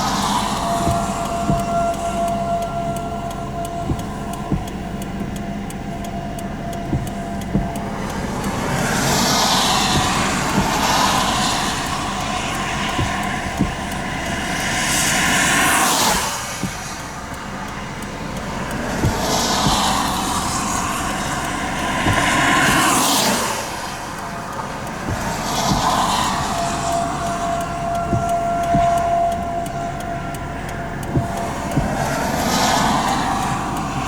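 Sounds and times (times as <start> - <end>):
light ticks: 0.0 - 34.0
vehicle rumbling on road: 0.0 - 34.0.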